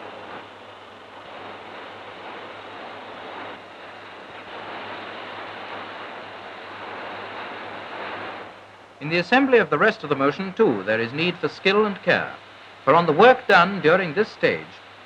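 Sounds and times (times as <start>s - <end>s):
film soundtrack hiss: 0.0s - 15.0s
low mains hum: 0.0s - 15.0s.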